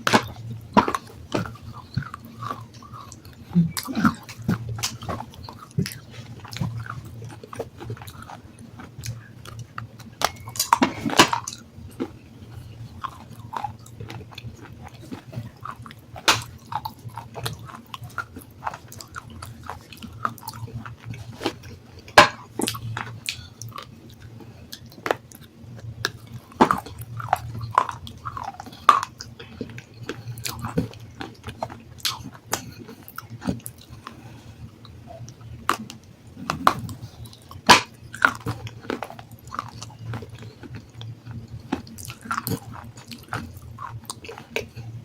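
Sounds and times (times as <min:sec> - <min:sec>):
crunching of chewed stone: 0:00.0 - 0:45.0.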